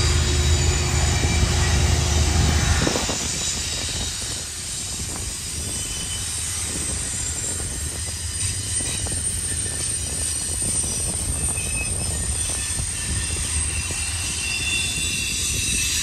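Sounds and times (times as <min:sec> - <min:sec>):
freight train rumbling past: 0:00.0 - 0:16.0
high wheel squeal: 0:00.0 - 0:16.0.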